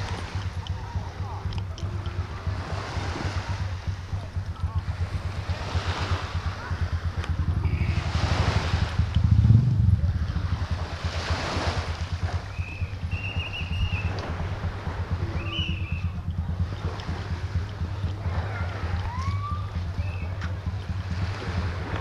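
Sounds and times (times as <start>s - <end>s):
small waves washing onto beach: 0.0s - 22.0s
wind buffeting microphone: 0.0s - 22.0s.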